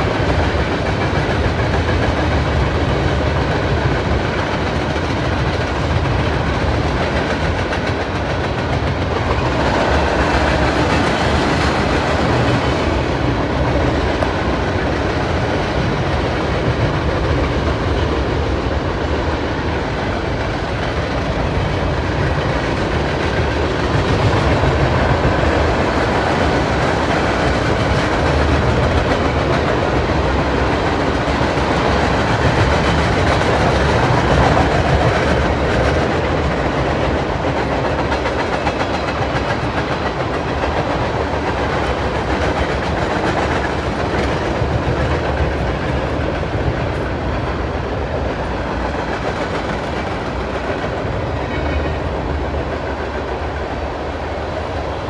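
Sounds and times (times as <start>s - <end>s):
train wheels rolling over rails: 0.0s - 55.0s.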